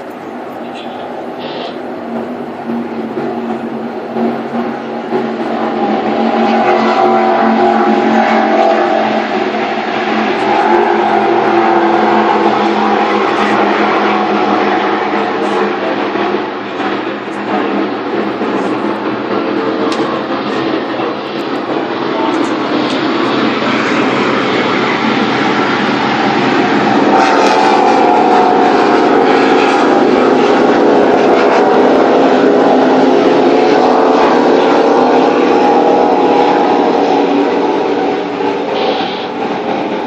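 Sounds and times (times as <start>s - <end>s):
powerboat engines droning: 0.0s - 40.0s.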